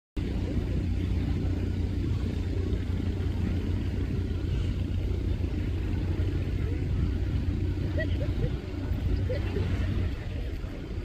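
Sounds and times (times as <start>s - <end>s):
speedboat engine rumbling: 0.2s - 11.0s.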